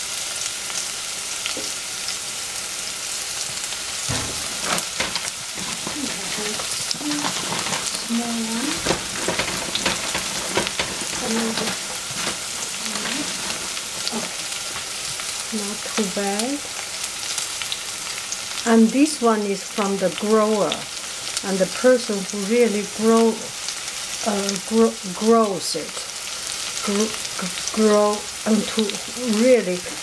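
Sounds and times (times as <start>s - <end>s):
mushrooms sizzling in oil: 0.0s - 30.0s.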